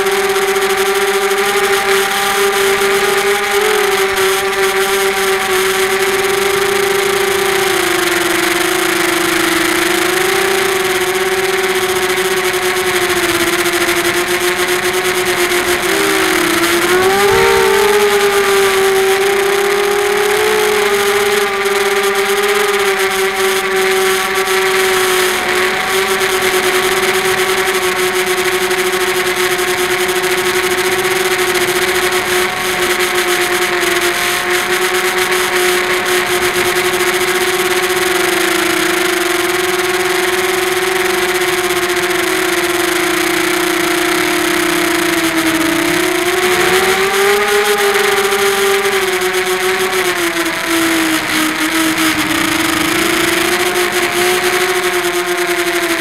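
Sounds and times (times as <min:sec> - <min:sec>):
quadcopter motors buzzing: 0:00.0 - 0:56.0.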